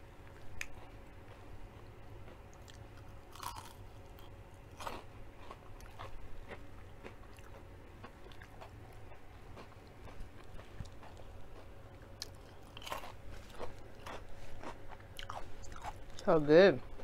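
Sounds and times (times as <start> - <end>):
chewing crunchy food: 0.2 - 17.0.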